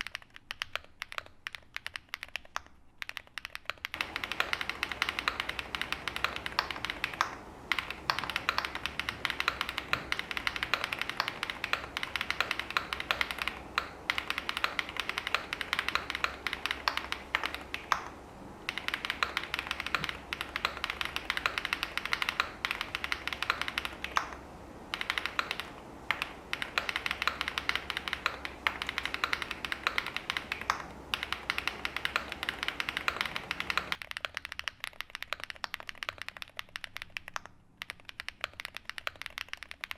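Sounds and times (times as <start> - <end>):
faint low hum: 0.0 - 34.2
fast typing on mechanical keyboard: 0.0 - 39.9.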